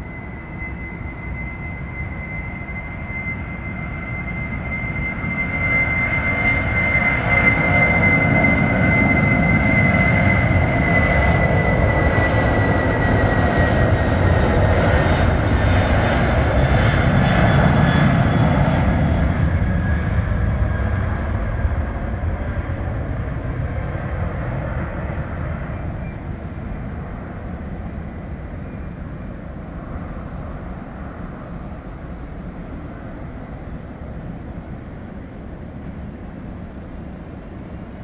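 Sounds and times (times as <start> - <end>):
jet engines roaring at takeoff: 0.0 - 38.0.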